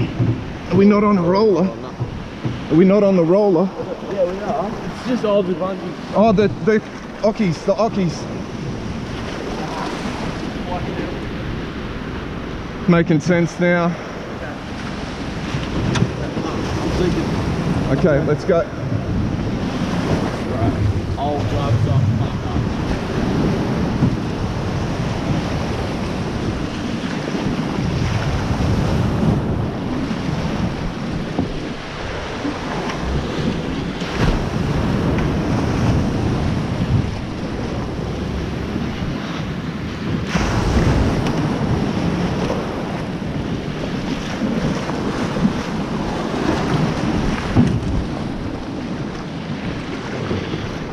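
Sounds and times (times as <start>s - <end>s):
waves washing in surf: 0.0s - 50.9s
wind buffeting microphone: 0.0s - 50.9s.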